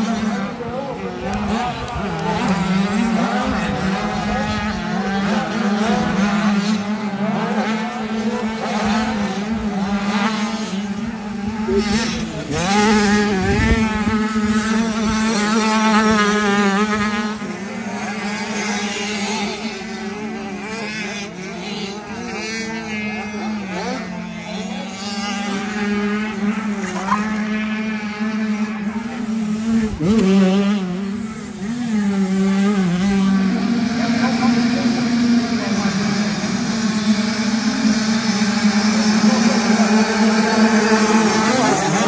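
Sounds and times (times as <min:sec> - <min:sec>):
motorbike accelerating through gears: 0:00.0 - 0:19.9, 0:20.7 - 0:42.0
motocross bike engines revving: 0:00.0 - 0:42.0.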